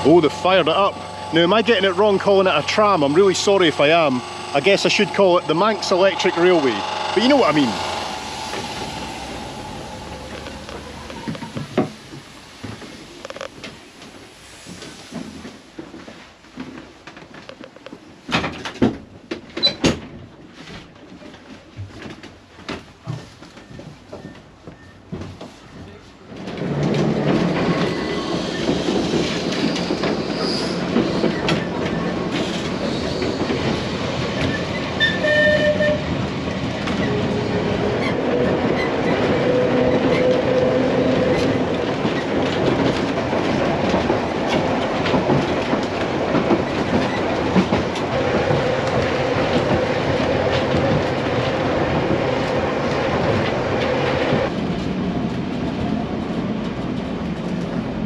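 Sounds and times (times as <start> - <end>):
tram wheels rumbling on track: 0.0 - 24.3, 25.2 - 58.0.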